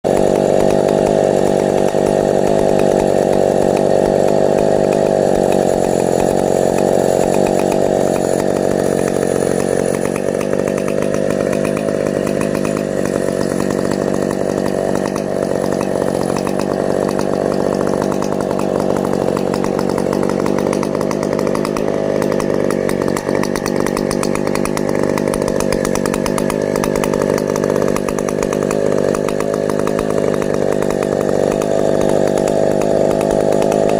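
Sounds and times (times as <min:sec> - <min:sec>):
chainsaw running at high revs: 0:00.0 - 0:33.9.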